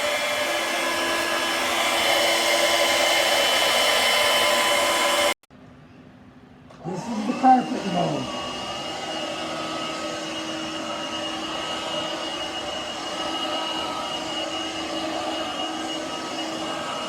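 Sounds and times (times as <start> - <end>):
cordless vacuum running: 0.0 - 5.4, 6.7 - 17.0.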